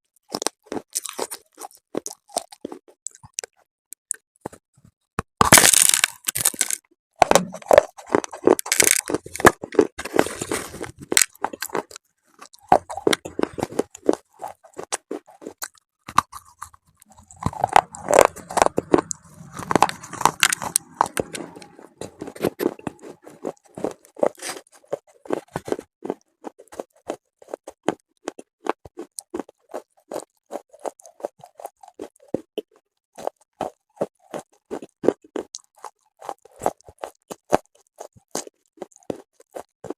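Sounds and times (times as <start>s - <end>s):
rapid crackly chewing: 0.1s - 39.9s
crunchy biting: 0.2s - 3.6s, 5.4s - 39.9s.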